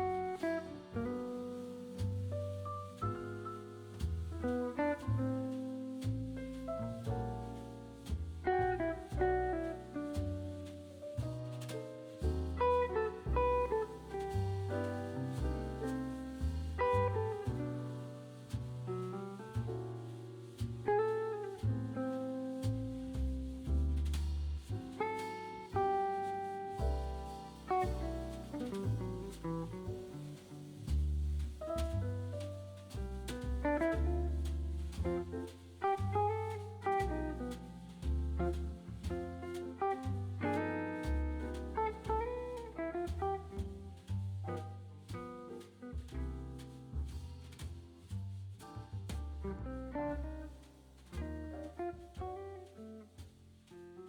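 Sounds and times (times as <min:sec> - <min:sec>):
relaxed jazz guitar and bass: 0:00.0 - 0:54.0.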